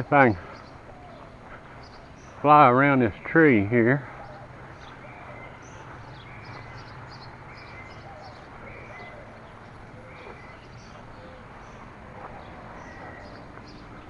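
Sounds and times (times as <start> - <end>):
birds singing: 0.0 - 14.0
faint outdoor background: 0.0 - 14.0.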